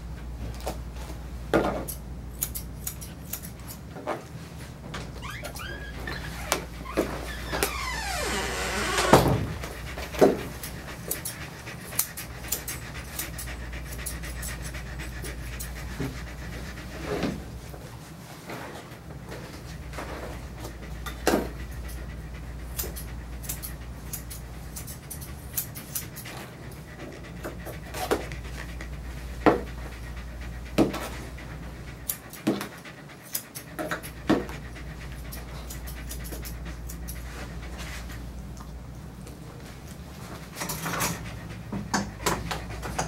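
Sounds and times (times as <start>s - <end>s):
dog panting: 1.8s - 43.0s.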